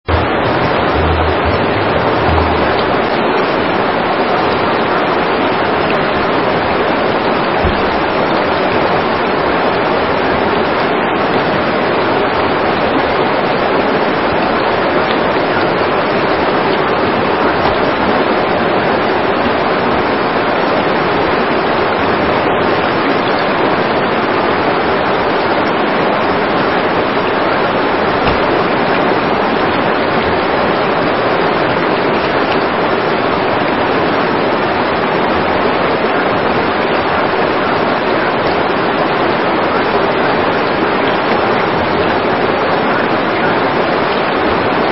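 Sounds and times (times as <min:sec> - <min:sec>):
spring water rushing: 0:00.0 - 0:44.9.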